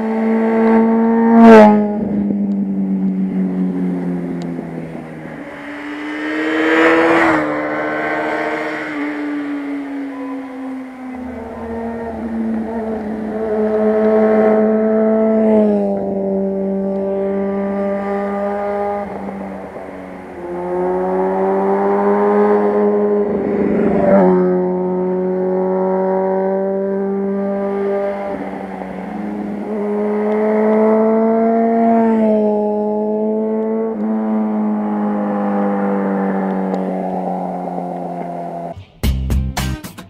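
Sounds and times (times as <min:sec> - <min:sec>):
motorcycle engine at high revs: 0:00.0 - 0:38.8.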